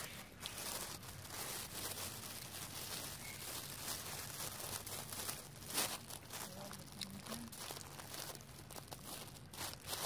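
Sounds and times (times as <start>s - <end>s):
peanut shells crackling: 0.0s - 10.0s.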